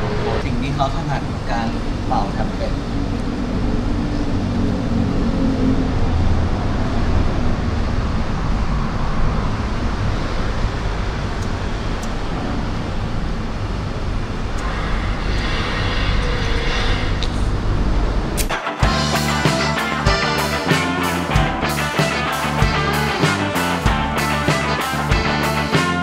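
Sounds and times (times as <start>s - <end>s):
vehicle road noise: 0.0s - 26.0s.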